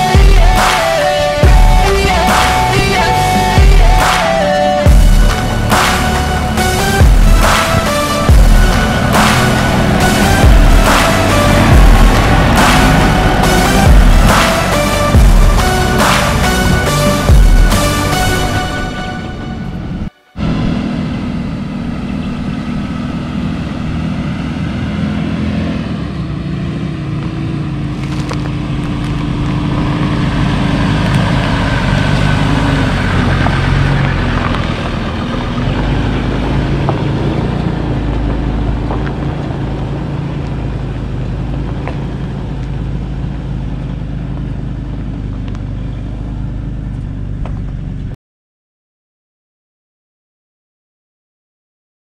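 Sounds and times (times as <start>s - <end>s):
vehicle engine driving: 0.0s - 48.2s.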